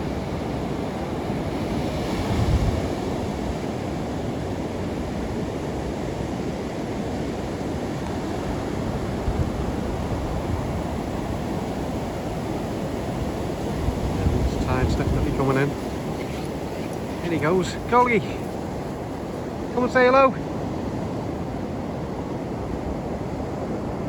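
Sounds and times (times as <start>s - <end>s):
sea surf washing on beach: 0.0s - 24.0s
wind buffeting microphone: 0.0s - 24.0s.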